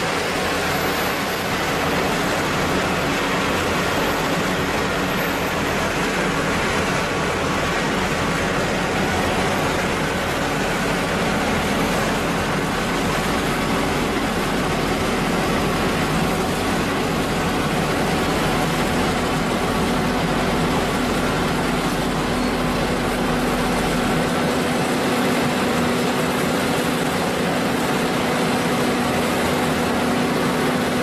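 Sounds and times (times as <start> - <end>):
deep engine rumble: 0.0 - 31.0
diesel machine engines running: 0.0 - 31.0
steady machine hums: 0.0 - 31.0.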